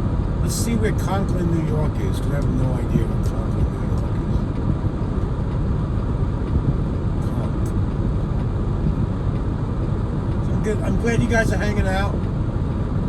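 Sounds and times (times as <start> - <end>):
truck engine rumble in cab: 0.0 - 13.0.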